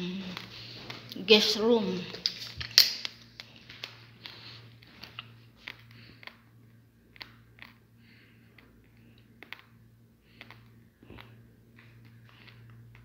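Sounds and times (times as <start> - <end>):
steady low hum: 0.0 - 13.0
faint clicks and taps: 2.0 - 13.0.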